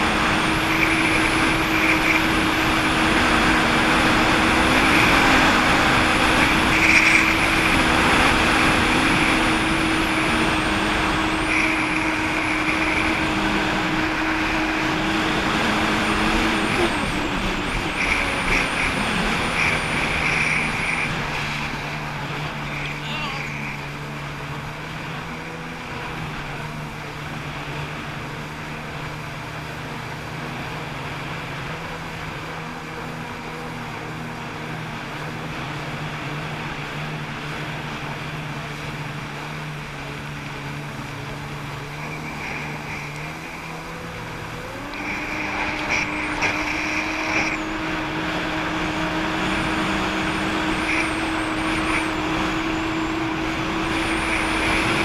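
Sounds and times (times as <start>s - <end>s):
jet ski engine revving: 0.0s - 55.0s.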